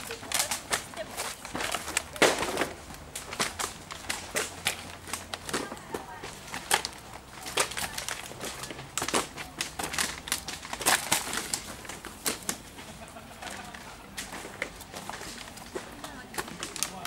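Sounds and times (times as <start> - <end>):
plastic bottles crackling and clattering: 0.0 - 17.0.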